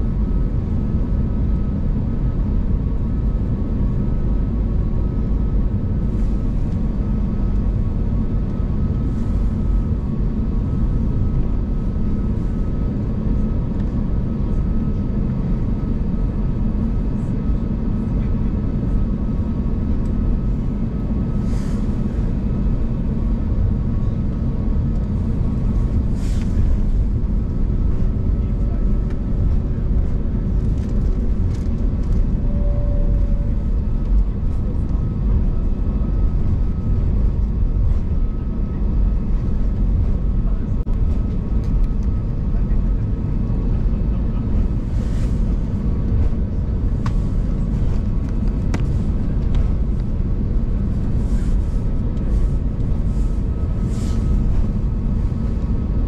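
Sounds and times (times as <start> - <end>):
faint steady whine: 0.0 - 56.0
low cabin rumble: 0.0 - 56.0.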